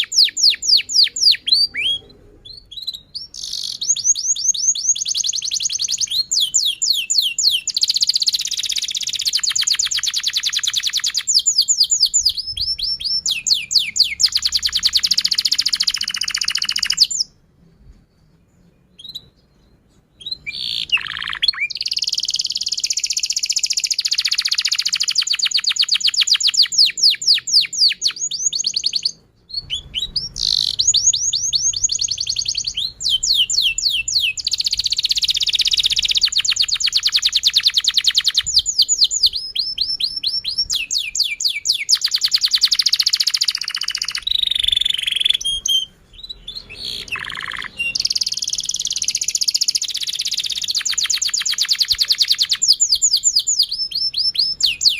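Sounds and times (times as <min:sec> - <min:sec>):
canary singing trills: 0:00.0 - 0:17.4, 0:18.2 - 0:54.9.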